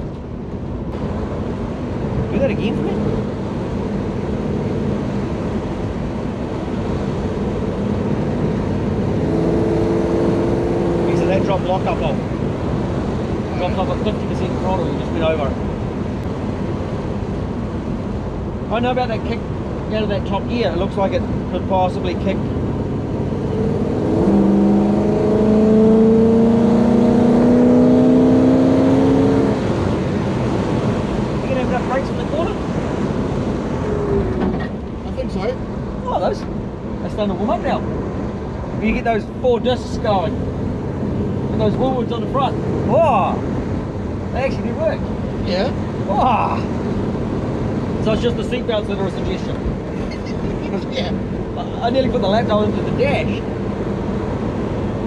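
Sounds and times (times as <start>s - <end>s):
car engine running: 0.0s - 55.0s
road noise: 0.0s - 55.0s.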